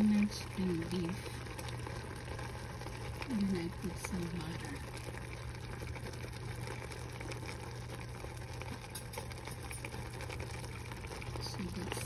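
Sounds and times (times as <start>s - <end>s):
pot bubbling and sizzling: 0.0s - 12.0s.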